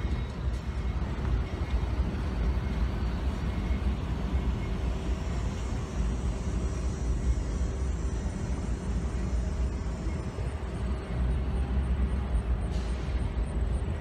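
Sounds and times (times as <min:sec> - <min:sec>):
diesel locomotives idling: 0:00.0 - 0:14.0.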